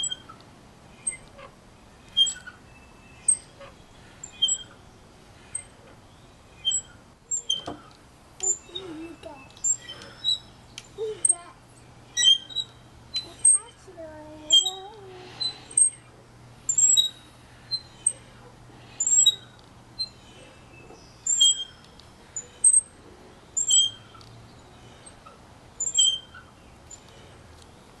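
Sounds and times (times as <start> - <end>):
swing squeaking: 0.0 - 27.8.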